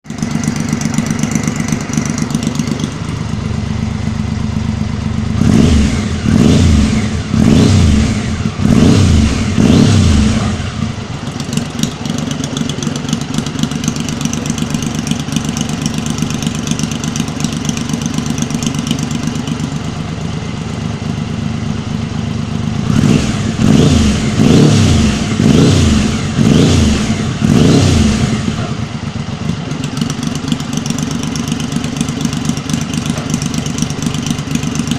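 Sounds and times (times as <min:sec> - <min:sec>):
motorcycle engine idling: 0:00.0 - 0:34.9
motorcycle throttle blips: 0:00.1 - 0:34.9.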